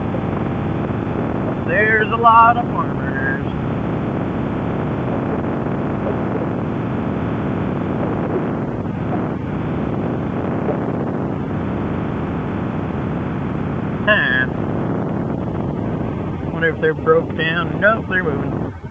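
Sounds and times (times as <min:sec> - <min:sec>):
motorcycle engine running: 0:00.0 - 0:18.9
wind rushing over microphone: 0:00.0 - 0:18.9.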